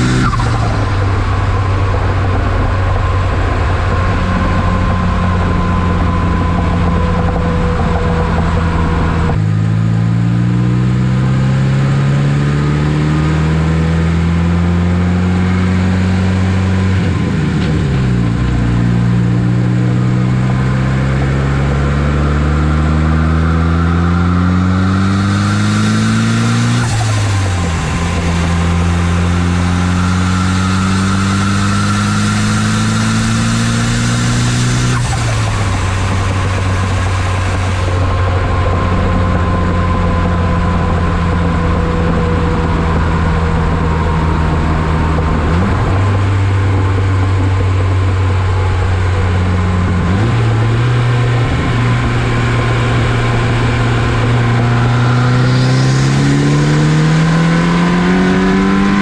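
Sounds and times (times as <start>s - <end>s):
turbocharged car engine accelerating: 0.0s - 59.0s.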